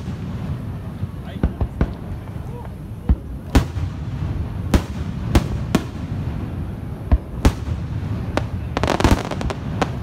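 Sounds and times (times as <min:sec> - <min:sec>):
fireworks bursting bangs: 0:00.0 - 0:10.0.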